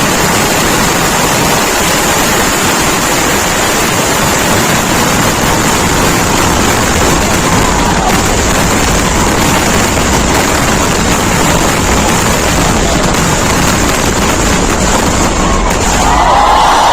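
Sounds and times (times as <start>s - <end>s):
firecrackers exploding: 0.0s - 16.9s.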